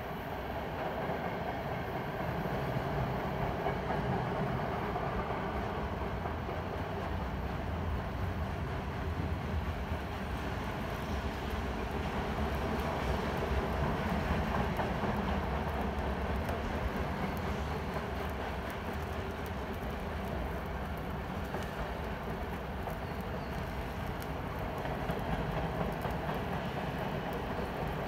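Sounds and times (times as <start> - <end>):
freight train rolling past: 0.0 - 28.0.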